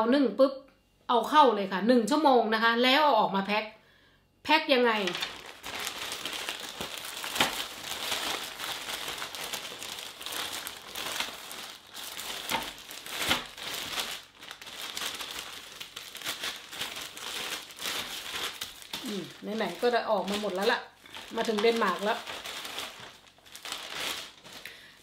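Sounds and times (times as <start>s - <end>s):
plastic bag and foil crinkling: 4.9s - 25.0s.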